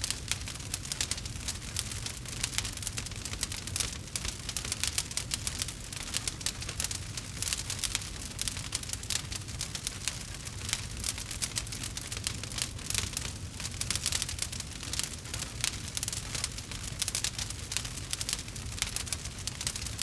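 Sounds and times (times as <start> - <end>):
rain pattering: 0.0 - 20.0
wood fire crackling: 0.0 - 20.0.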